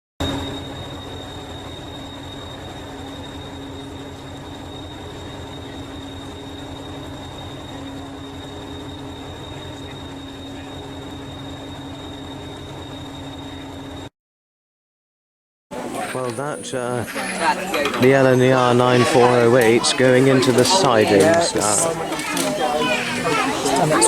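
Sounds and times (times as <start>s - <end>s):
miniature railway locomotive running: 0.2s - 14.1s, 15.7s - 24.0s.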